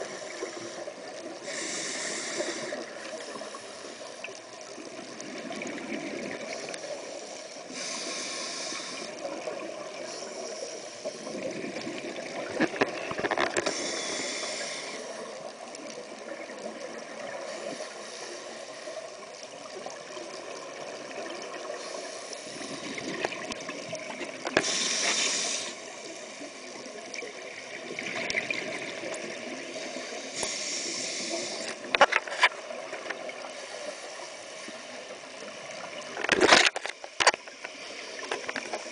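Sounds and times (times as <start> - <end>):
exhaled bubbles hissing: 0.0 - 38.9.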